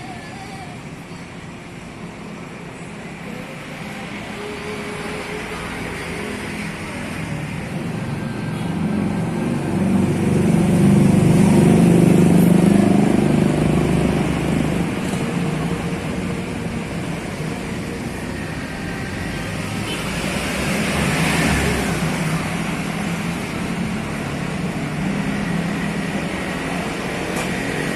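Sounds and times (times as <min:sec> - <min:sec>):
road traffic with vehicles passing: 0:00.0 - 0:27.9.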